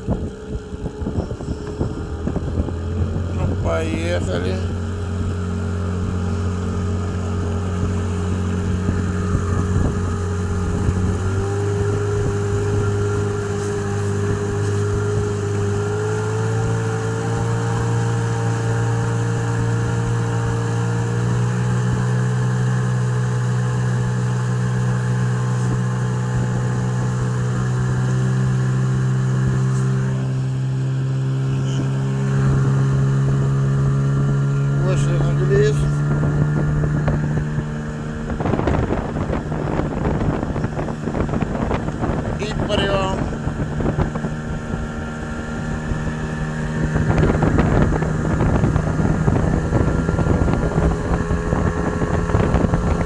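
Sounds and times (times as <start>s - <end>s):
outboard motor running: 0.0s - 53.0s.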